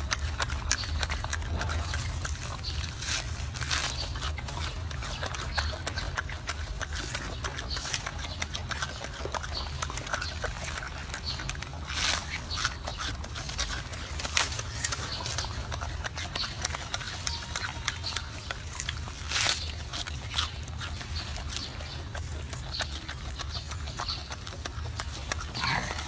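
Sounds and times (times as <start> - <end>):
monkey chewing crisp greens: 0.0 - 26.0.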